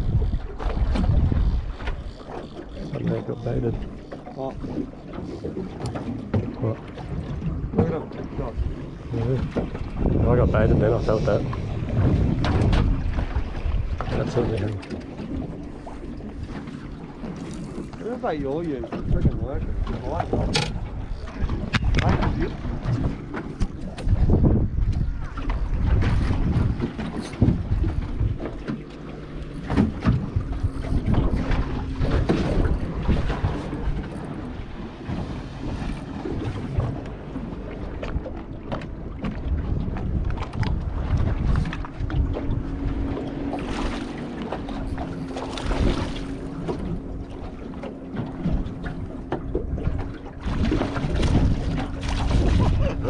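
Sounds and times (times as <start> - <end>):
water slapping boat hull: 0.0 - 53.0
wind buffeting microphone: 0.0 - 53.0.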